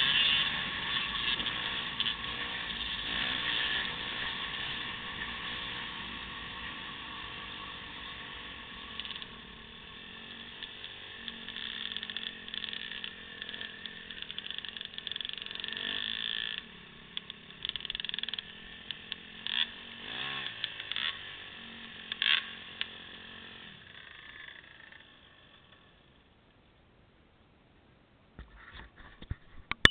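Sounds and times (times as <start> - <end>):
dirt bike engine running: 0.0 - 26.3.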